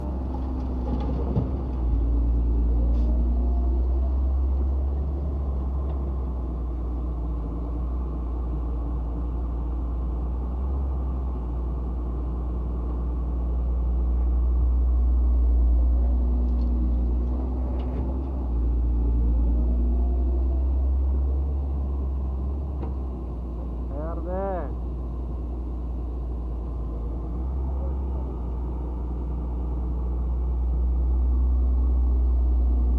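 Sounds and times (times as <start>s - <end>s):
heavy diesel machinery rumbling: 0.0s - 32.9s.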